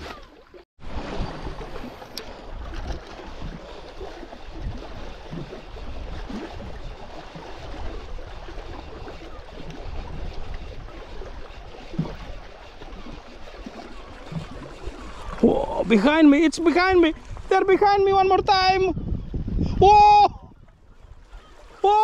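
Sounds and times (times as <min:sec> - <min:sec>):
sea water washing against rocks: 0:00.0 - 0:18.6.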